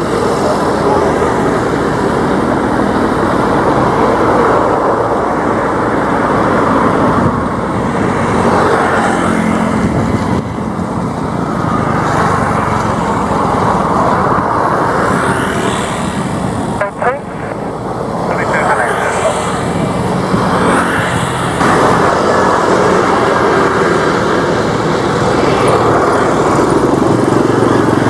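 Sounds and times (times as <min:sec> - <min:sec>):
propeller plane engines droning: 0:00.0 - 0:28.0.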